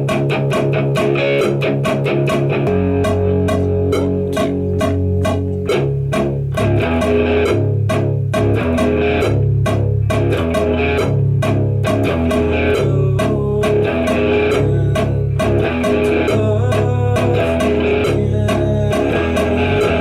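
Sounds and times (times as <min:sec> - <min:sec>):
bass guitar: 0:00.0 - 0:20.0
electric guitar: 0:00.0 - 0:20.0
drum hits on a steady beat: 0:01.6 - 0:20.0.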